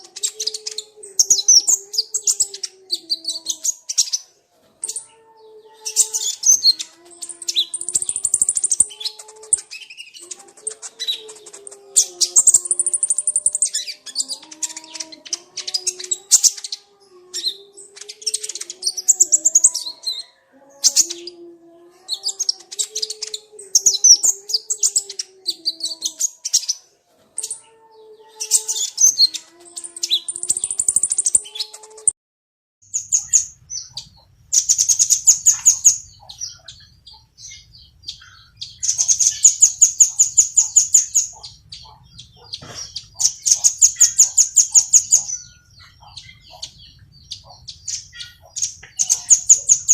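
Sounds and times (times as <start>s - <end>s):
songbird chirps and trills: 0.0s - 32.1s, 32.8s - 49.9s
small birds calling: 0.0s - 32.2s, 32.8s - 49.9s.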